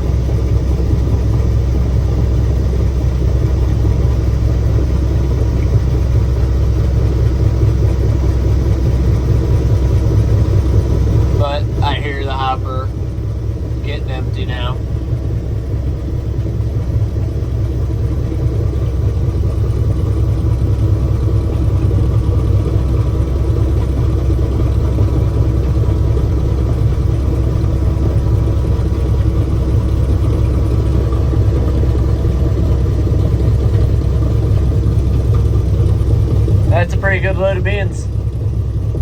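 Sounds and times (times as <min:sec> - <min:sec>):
combine harvester engine droning: 0:00.0 - 0:39.0.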